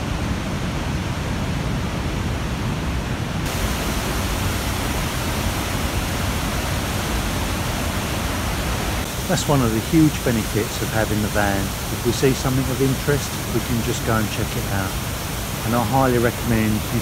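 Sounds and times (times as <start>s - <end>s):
roar of river rapids: 0.0s - 17.0s.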